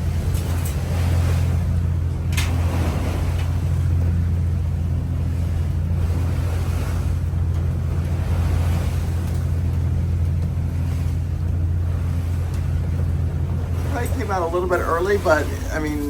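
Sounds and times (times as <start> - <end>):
boat diesel engine droning: 0.0 - 16.0
sea wash: 0.0 - 16.0
wind: 0.0 - 16.0.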